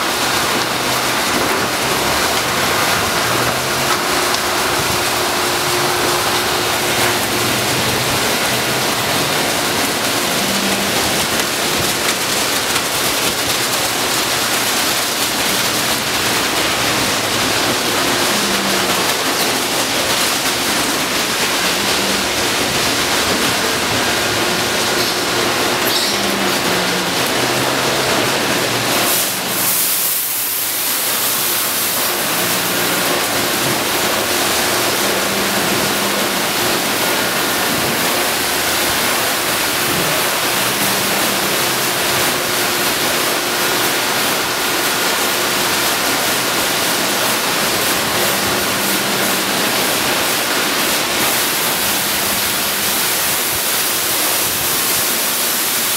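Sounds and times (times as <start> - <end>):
water spraying onto car: 0.0 - 55.9.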